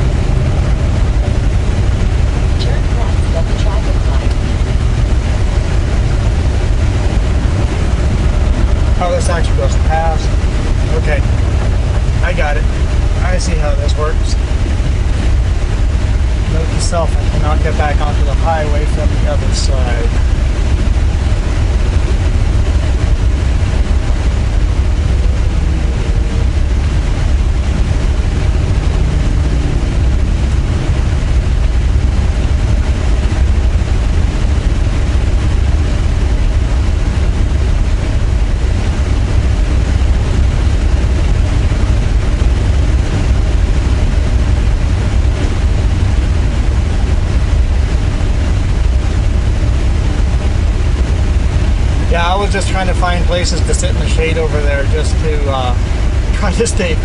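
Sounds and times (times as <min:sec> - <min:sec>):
low rumble of vehicle noise: 0:00.0 - 0:57.0.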